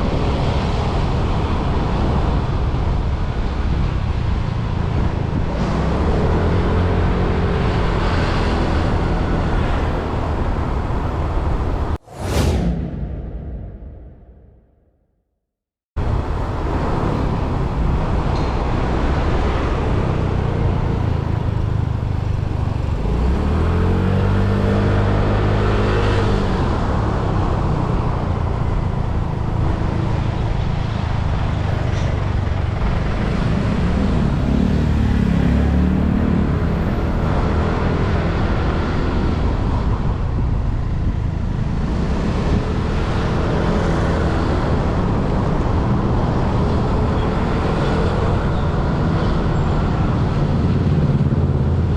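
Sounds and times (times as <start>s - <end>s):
traffic engines running: 0.0s - 12.0s, 16.0s - 51.9s
wind and road noise: 0.0s - 14.9s, 16.0s - 51.9s.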